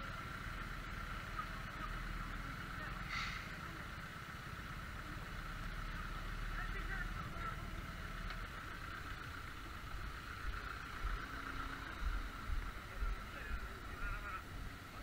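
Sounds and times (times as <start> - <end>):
traffic on a wet road: 0.0 - 15.0.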